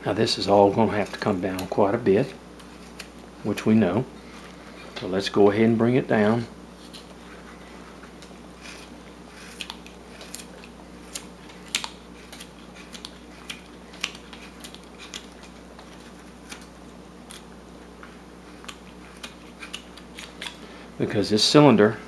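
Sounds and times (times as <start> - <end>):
faint steady hum: 0.0 - 22.0
knife shaving wood: 0.2 - 5.0, 6.2 - 17.5, 18.4 - 20.8.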